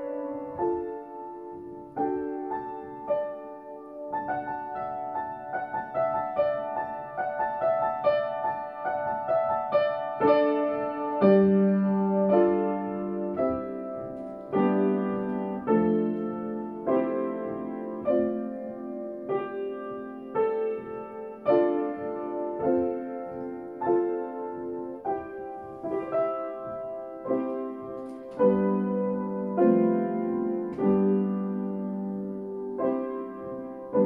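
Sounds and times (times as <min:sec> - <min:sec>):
slow solo piano chords: 0:00.0 - 0:34.0.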